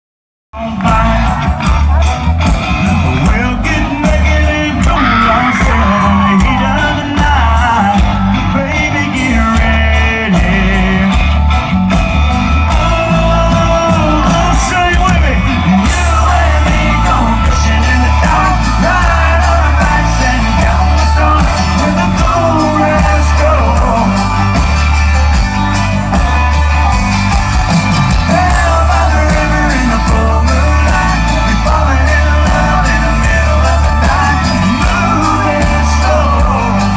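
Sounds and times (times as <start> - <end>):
person singing: 0.6 - 11.6, 12.6 - 36.9
bass and drum beat: 0.6 - 36.9.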